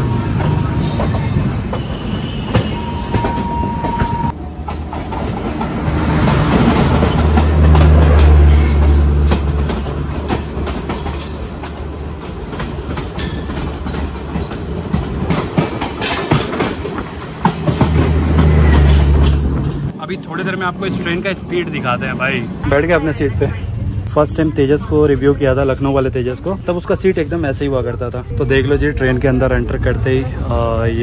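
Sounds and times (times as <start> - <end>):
passing train alongside: 0.0 - 31.0
train wheels rumbling on rails: 0.0 - 31.0.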